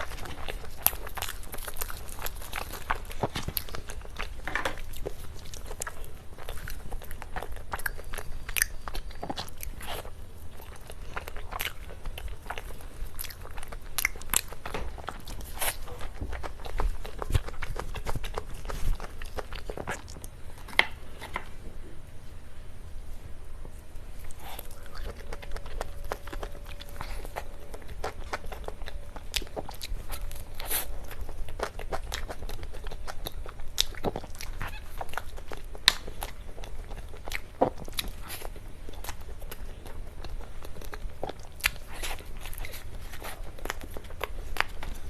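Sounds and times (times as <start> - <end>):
crunchy chewing of cake: 0.0 - 21.6, 23.7 - 45.0.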